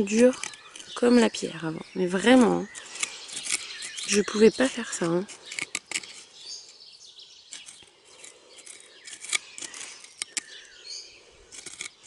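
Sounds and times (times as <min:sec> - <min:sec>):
hand fork scraping soil: 0:00.0 - 0:12.0.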